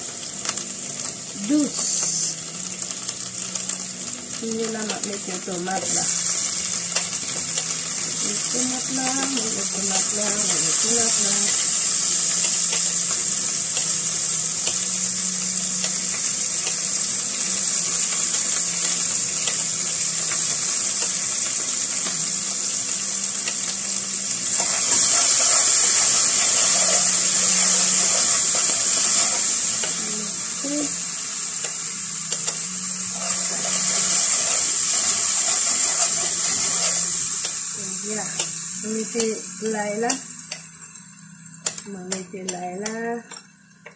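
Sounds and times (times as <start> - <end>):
tomatoes sizzling in hot oil: 0.0 - 43.9.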